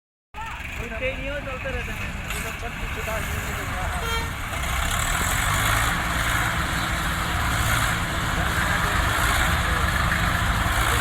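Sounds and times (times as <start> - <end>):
tractor diesel engine running: 0.4 - 11.0.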